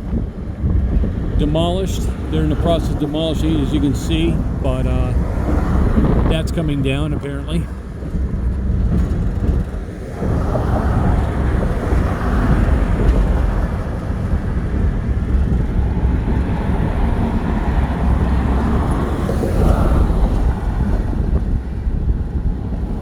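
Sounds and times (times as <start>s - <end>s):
train rumbling slowly: 0.0s - 23.0s
wind buffeting microphone: 0.0s - 23.0s.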